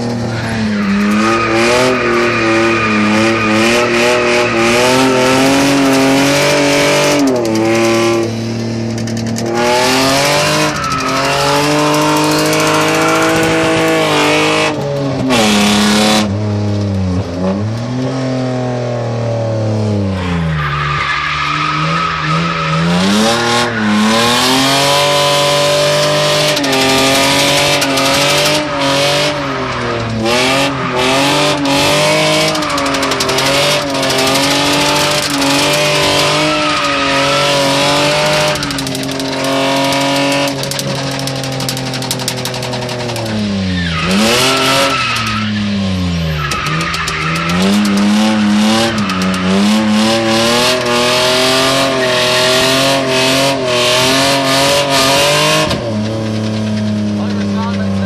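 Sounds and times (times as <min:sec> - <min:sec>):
car engine at high revs: 0:00.0 - 0:58.0
tyres squealing: 0:00.1 - 0:08.0, 0:09.9 - 0:16.2, 0:20.2 - 0:58.0.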